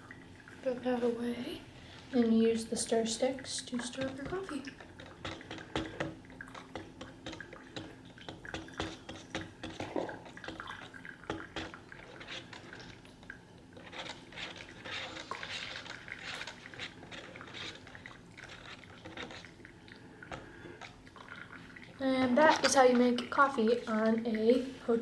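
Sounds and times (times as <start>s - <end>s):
stir stick stirring coffee in cup: 1.0s - 25.0s.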